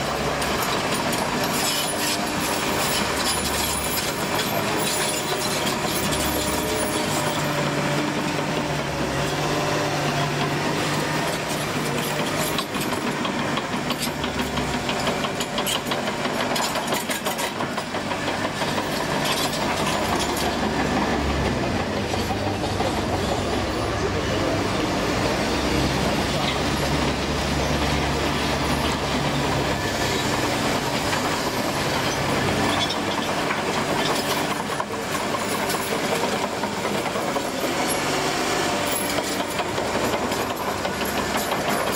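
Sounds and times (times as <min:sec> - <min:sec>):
bulldozer diesel engine running: 0:00.0 - 0:41.9
steel tracks clattering and squeaking: 0:00.0 - 0:41.9.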